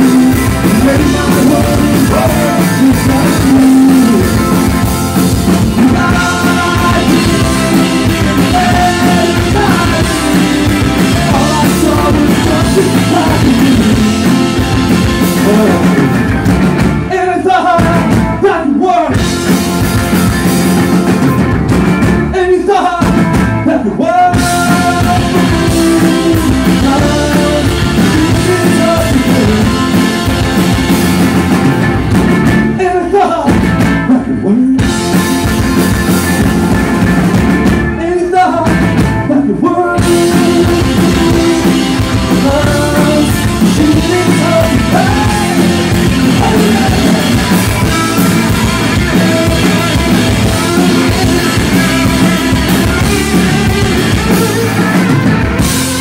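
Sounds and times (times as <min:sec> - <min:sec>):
man singing lead vocal: 0:00.0 - 0:04.9, 0:05.5 - 0:16.4, 0:17.0 - 0:19.5, 0:22.3 - 0:30.5, 0:32.7 - 0:35.0, 0:37.9 - 0:55.3
rock band playing live: 0:00.0 - 0:56.0.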